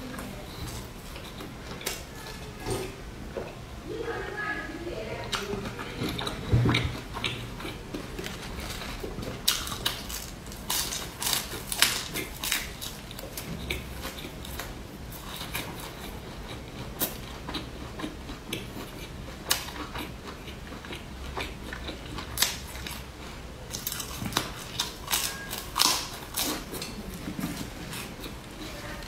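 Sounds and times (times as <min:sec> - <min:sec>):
chewing with wet smacks: 0:05.2 - 0:29.0.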